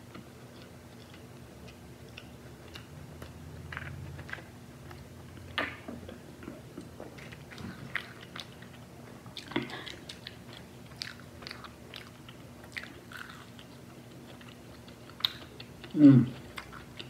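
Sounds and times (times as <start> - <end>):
chewing with mouth clicks: 0.0 - 17.0.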